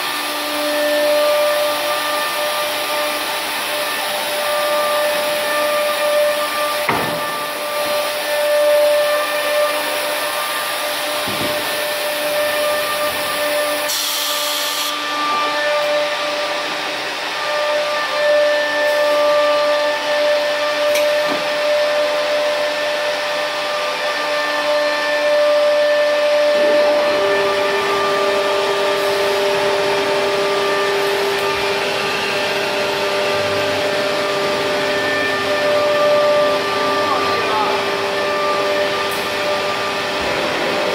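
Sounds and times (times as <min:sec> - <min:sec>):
cnc router whirring: 0:00.0 - 0:40.9.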